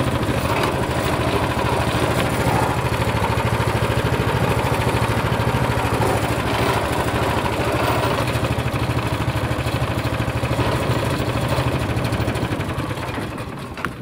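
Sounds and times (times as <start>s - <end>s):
engine idling with pulsing beat: 0.0s - 13.7s.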